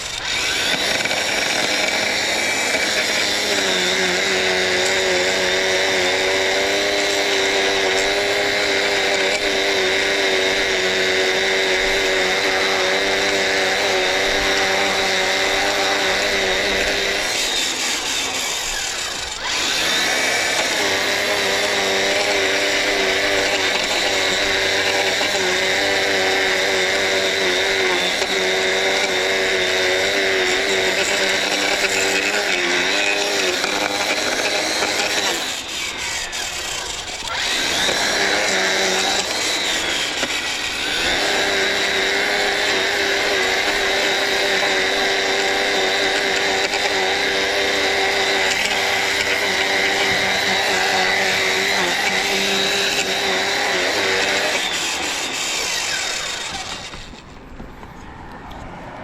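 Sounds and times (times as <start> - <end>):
electric edger motor whine: 0.0 - 58.4.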